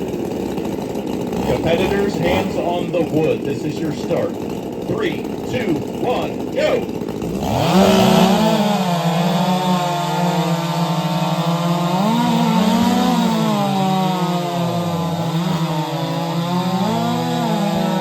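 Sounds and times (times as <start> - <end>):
racing chainsaws cutting log: 0.0 - 18.0.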